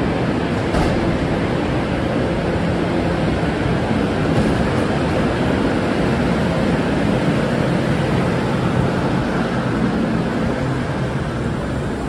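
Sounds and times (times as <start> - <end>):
low roar of machinery: 0.0 - 12.0.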